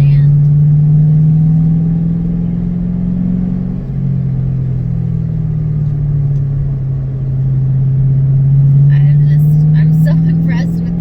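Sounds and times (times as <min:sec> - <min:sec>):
car engine droning in cabin: 0:00.0 - 0:11.0.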